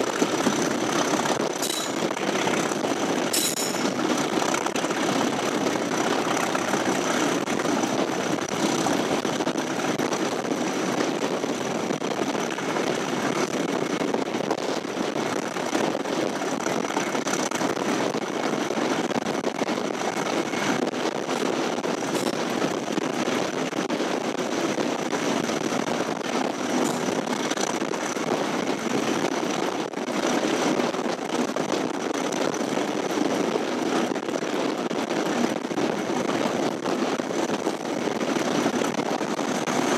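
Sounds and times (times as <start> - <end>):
diesel locomotive engine running: 0.0 - 39.9
moving train running noise: 0.0 - 39.9.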